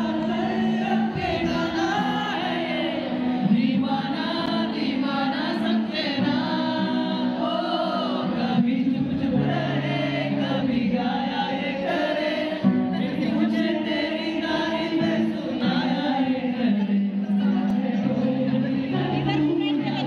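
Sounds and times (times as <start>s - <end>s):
acoustic guitar: 0.0s - 20.0s
man singing into microphone: 0.0s - 20.0s.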